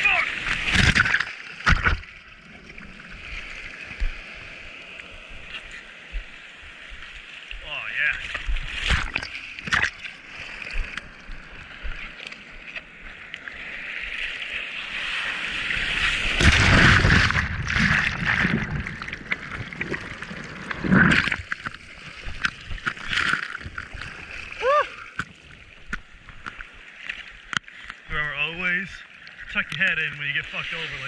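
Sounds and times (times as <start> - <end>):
water sloshing and splashing: 0.0 - 31.0.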